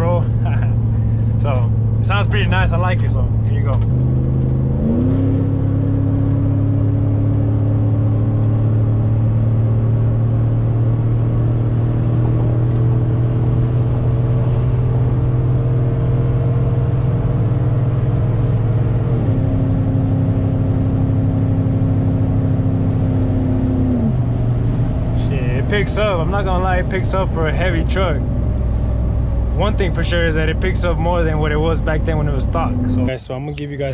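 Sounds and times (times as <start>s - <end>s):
truck engine accelerating hard: 0.0s - 33.2s
transmission gear change: 0.0s - 33.9s.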